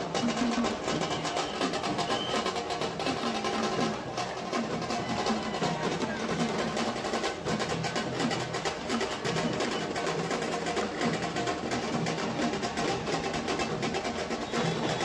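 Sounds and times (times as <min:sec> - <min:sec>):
drums played fast: 0:00.0 - 0:15.0.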